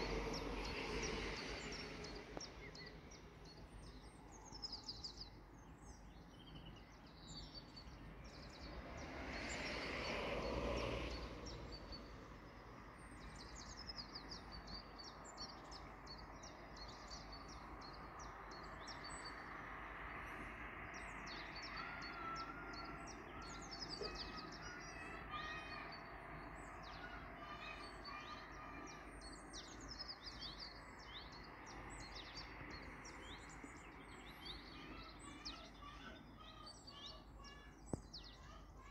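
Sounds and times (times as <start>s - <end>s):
birds chirping and twittering: 0.0s - 38.9s
outdoor background hum: 0.0s - 38.9s.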